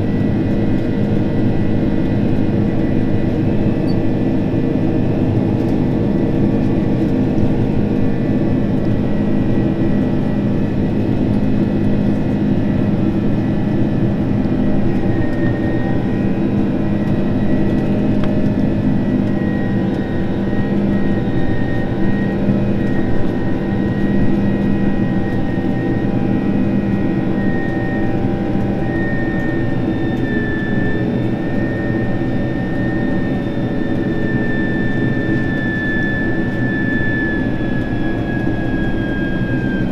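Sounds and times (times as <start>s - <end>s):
jet engines and airflow rushing: 0.0s - 39.9s.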